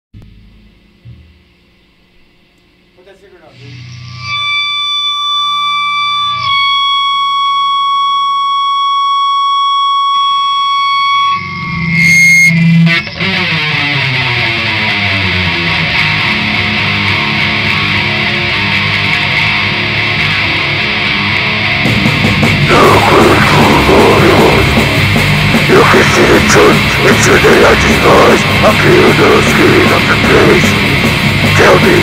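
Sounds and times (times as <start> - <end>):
held electric guitar note: 3.5 - 32.0
heavy distorted rock music: 3.6 - 32.0.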